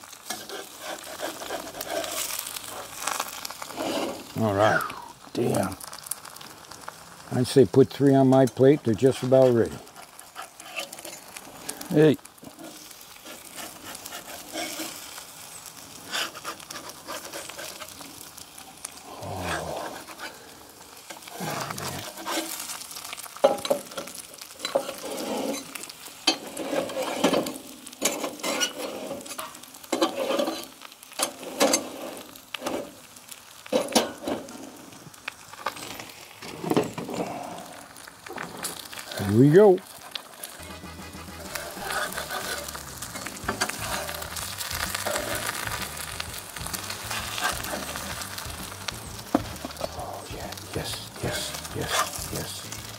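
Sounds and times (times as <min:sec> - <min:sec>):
eggs sizzling in a pan: 0:00.0 - 0:52.9
fat popping and crackling: 0:00.0 - 0:52.9.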